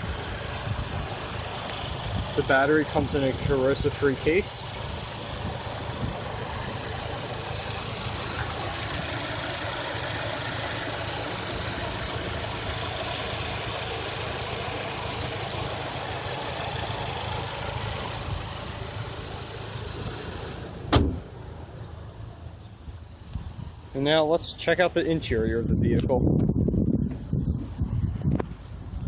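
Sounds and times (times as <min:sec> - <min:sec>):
car engine idling: 0:00.0 - 0:25.8.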